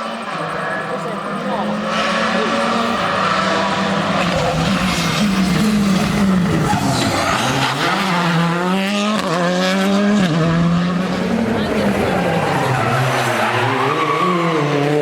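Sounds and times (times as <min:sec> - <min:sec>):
rally car engine revving: 0:00.0 - 0:15.0
tyre and road noise: 0:00.0 - 0:15.0.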